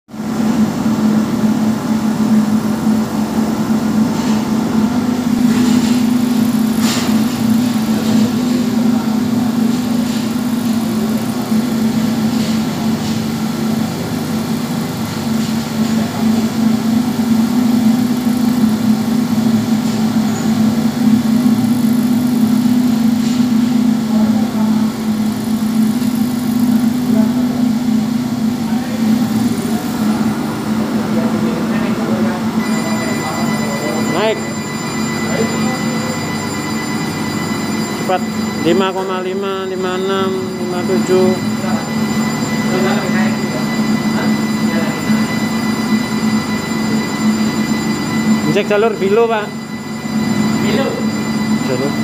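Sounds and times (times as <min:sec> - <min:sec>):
vacuum pump droning: 0:00.1 - 0:52.0.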